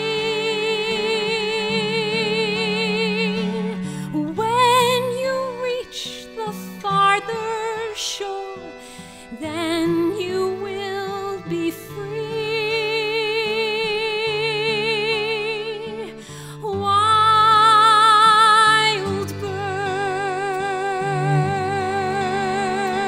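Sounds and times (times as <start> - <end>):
soft accompaniment: 0.0 - 23.0
woman singing with vibrato: 0.0 - 23.0.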